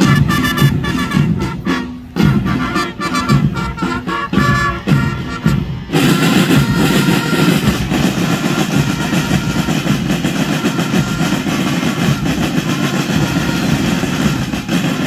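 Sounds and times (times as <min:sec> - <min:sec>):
marching drums playing cadence: 0:00.0 - 0:15.0.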